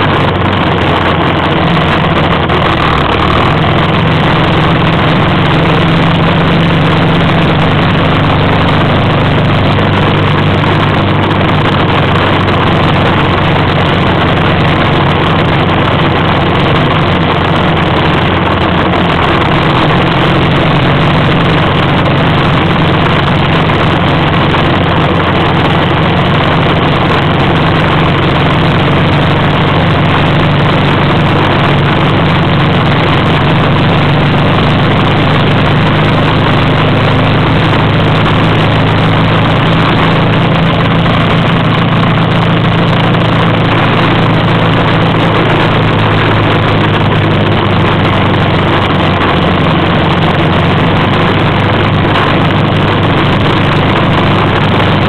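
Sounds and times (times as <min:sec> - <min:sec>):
rushing noise of driving on sand: 0:00.0 - 0:55.0
vehicle engine drone: 0:00.0 - 0:55.0.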